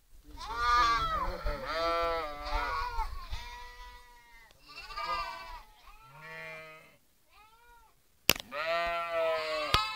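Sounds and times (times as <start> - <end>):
sheep bleating: 0.4 - 7.9, 8.5 - 9.9.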